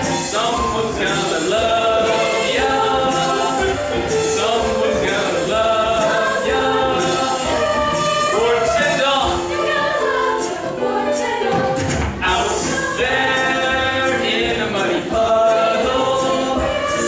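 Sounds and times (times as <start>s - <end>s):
choir singing show tune: 0.0s - 17.0s.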